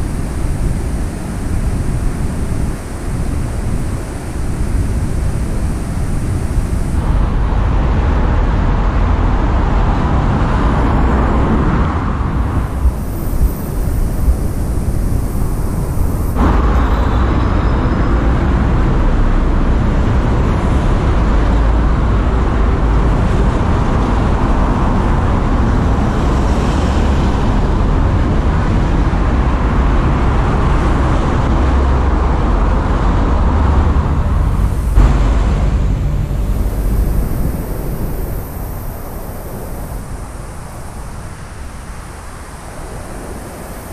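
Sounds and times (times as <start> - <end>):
city street traffic rumble: 0.0 - 43.9.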